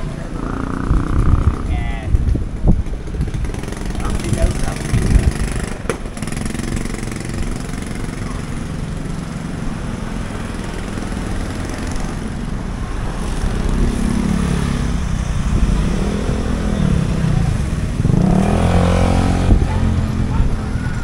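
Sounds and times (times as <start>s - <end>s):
motorcycle engines passing: 0.0s - 21.0s
scooter engine: 0.0s - 21.0s
steady traffic hum: 0.0s - 21.0s.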